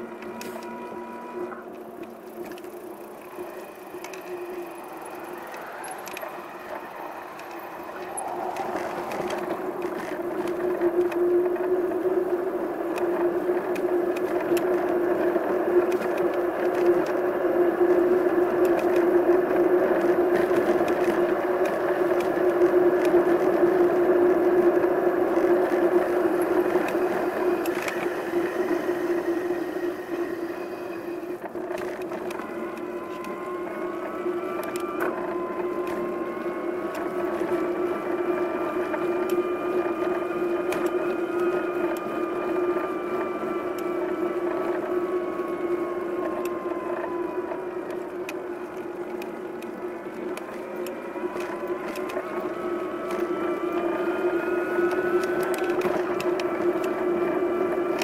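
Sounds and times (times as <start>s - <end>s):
high-pitched whine: 0.0s - 58.0s
steady engine hum: 0.0s - 58.0s
wind and road rush: 1.6s - 58.0s.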